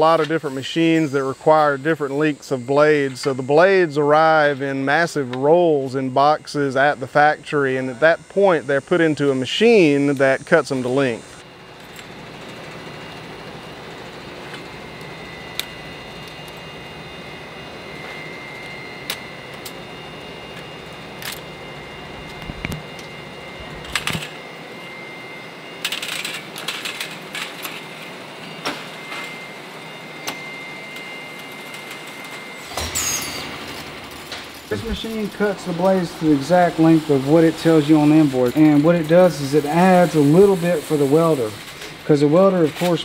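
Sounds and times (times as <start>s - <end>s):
machinery hum and whine: 0.0s - 43.0s.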